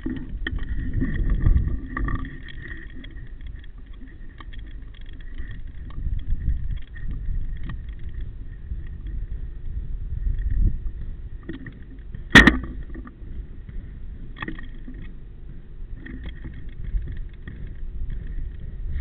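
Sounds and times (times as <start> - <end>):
faint clicks: 0.0 - 9.5, 10.3 - 19.0
wind rumble: 0.0 - 19.0.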